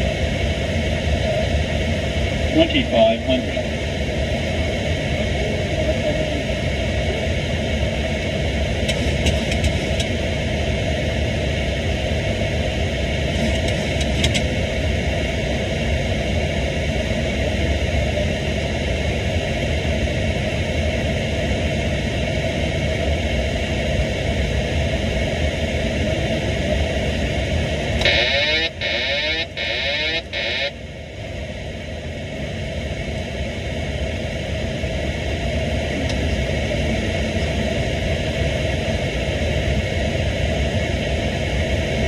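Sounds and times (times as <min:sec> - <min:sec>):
jet engine rumble: 0:00.0 - 0:42.0.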